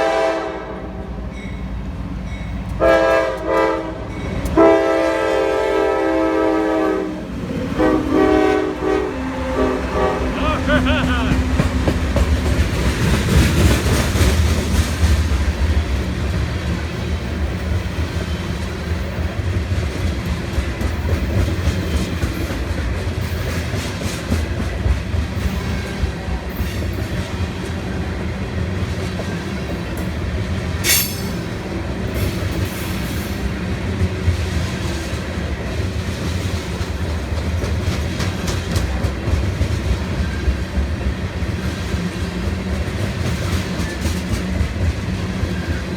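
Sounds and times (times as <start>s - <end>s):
train rumbling past: 0.0s - 45.9s.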